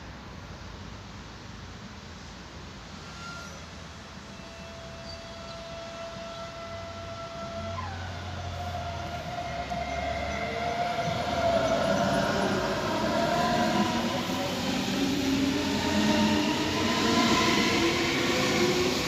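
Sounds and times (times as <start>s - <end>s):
electric train drive whine: 2.8s - 19.0s
train wheels rumbling on rails: 2.8s - 19.0s.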